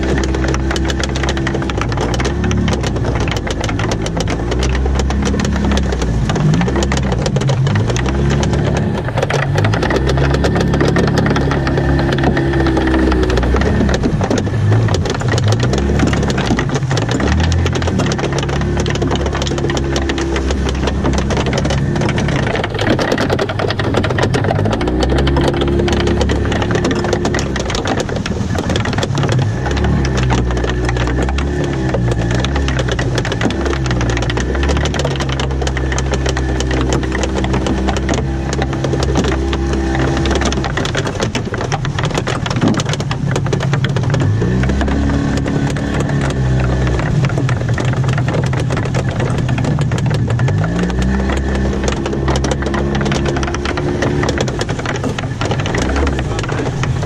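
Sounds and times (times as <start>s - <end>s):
outboard motor running: 0.0s - 57.0s
patter of small clicks: 0.0s - 57.0s
wind and water rushing: 0.0s - 57.0s.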